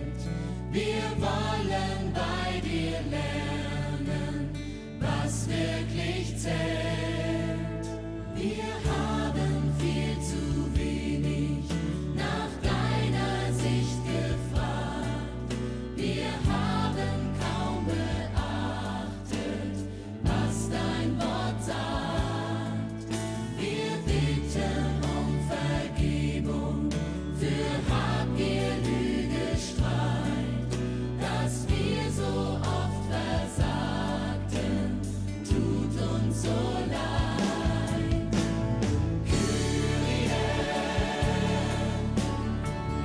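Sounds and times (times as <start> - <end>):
steady bass: 0.0 - 43.0
voices singing a hymn: 0.0 - 43.0.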